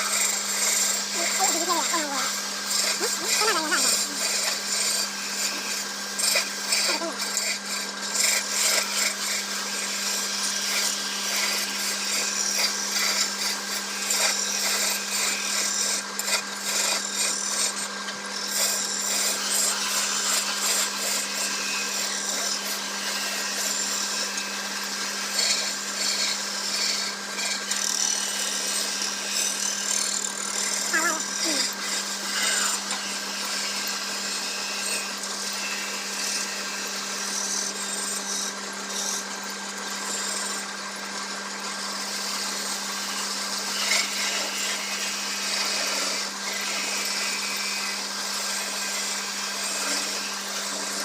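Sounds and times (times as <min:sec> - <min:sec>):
turning tool scraping wood: 0:00.0 - 0:51.0
wood lathe motor hum: 0:00.0 - 0:51.0.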